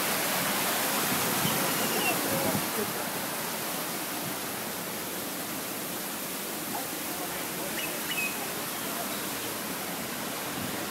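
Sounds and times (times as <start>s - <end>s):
waterfall rushing water: 0.0s - 10.9s.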